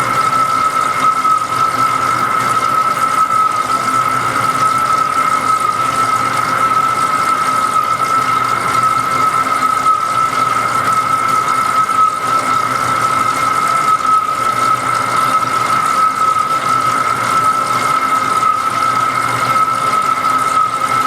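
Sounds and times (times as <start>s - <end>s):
metal lathe running: 0.0s - 21.0s.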